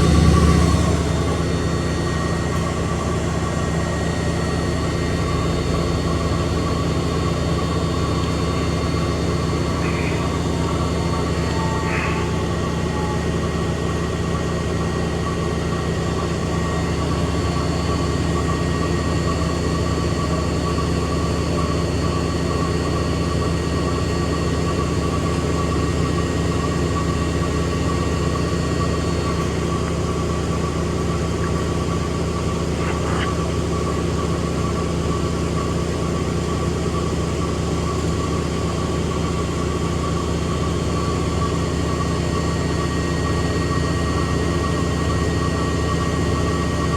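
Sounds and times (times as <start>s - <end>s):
washing machine spinning: 0.0s - 46.9s.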